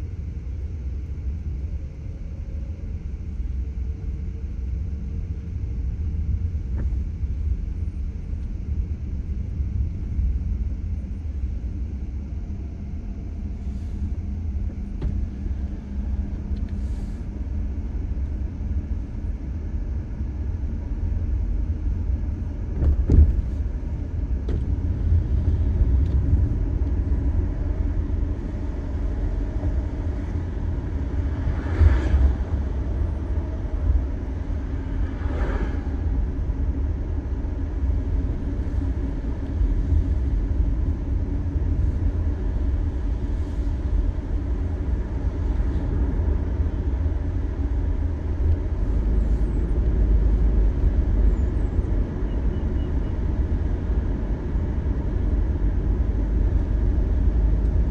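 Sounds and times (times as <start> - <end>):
car road noise rumble: 0.0 - 57.9.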